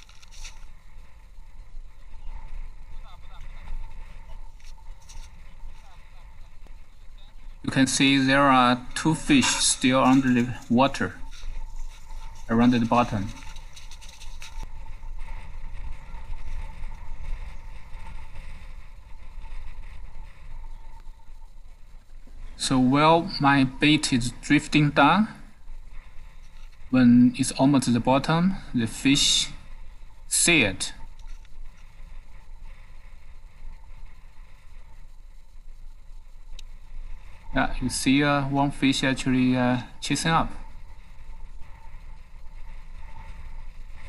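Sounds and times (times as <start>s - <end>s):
faint high whine: 0.0s - 44.0s
wind buffeting microphone: 0.0s - 44.0s.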